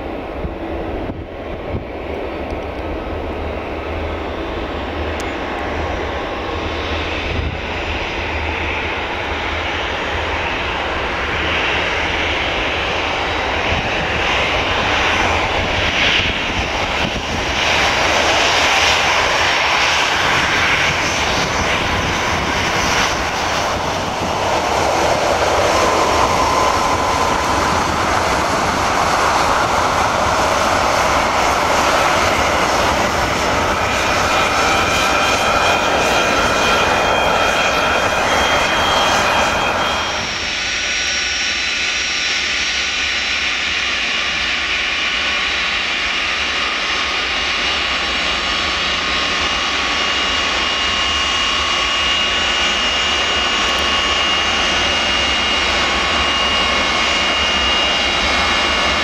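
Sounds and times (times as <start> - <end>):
jet engines of taxiing airliner: 0.0 - 59.0.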